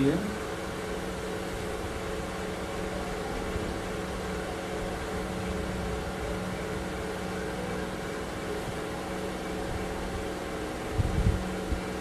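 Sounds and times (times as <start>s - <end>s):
faint constant tones: 0.0s - 12.0s
mechanical room drone: 0.0s - 12.0s.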